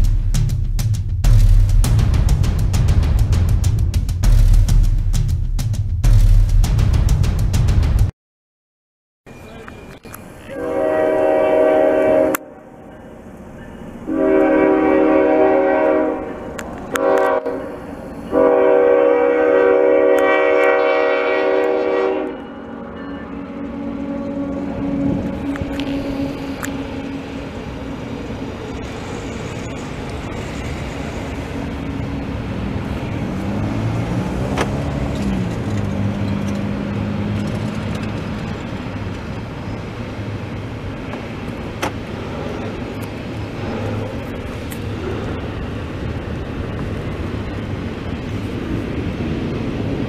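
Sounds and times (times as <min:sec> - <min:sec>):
train wheels rumbling on rails: 0:00.0 - 0:08.1, 0:09.3 - 0:50.0
road traffic: 0:09.3 - 0:50.0.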